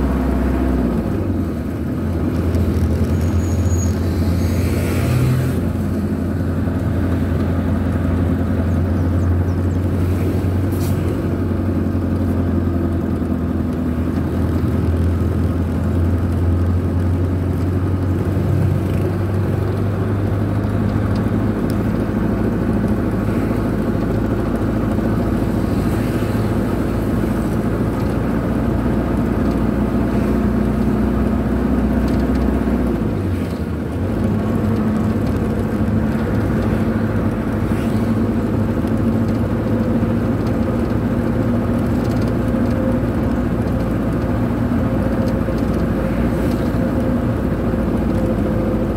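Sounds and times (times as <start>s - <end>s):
vehicle engine drone: 0.0s - 48.9s.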